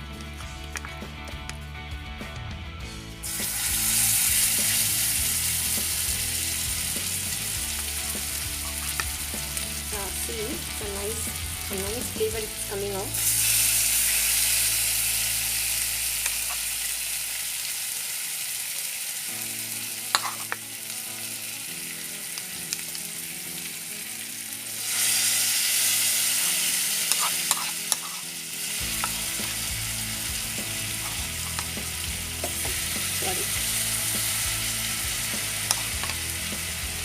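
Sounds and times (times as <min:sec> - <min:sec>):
chicken sizzling in pan: 0:03.2 - 0:37.0.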